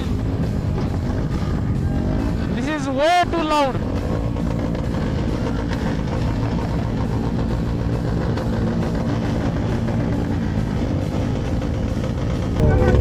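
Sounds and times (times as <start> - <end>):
motorcycles running: 0.0 - 13.0.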